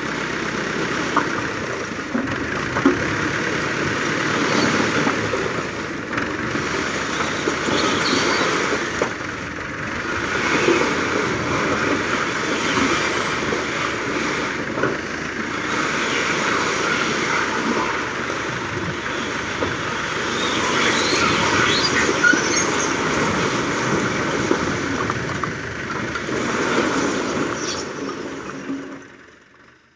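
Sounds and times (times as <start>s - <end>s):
tractor diesel engine under load: 0.0s - 29.9s.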